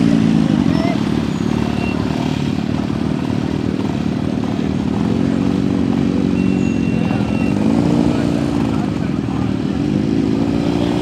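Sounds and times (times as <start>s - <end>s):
vehicle engine idling: 0.0s - 10.2s.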